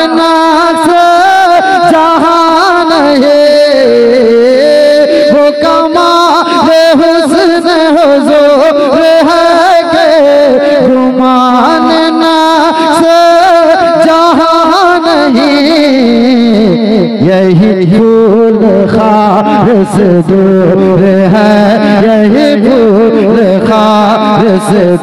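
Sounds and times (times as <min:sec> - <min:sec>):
man singing devotional song: 0:00.0 - 0:25.0.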